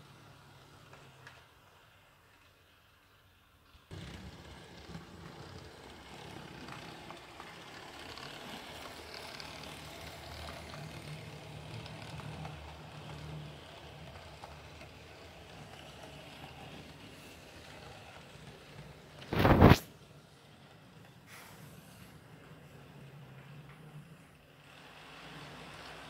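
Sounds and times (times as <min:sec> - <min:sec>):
wheels rolling over rails: 0:00.0 - 0:26.0
model train motor hum: 0:03.8 - 0:26.0.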